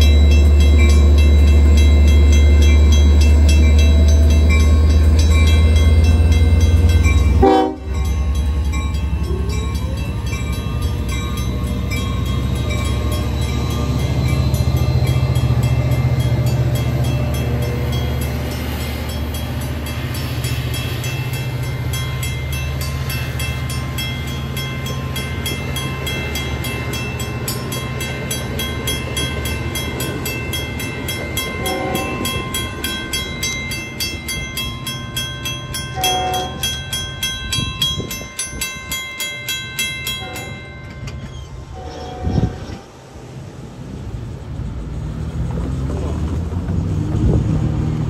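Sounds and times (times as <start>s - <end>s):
train passing rumble and clatter: 0.0s - 48.0s.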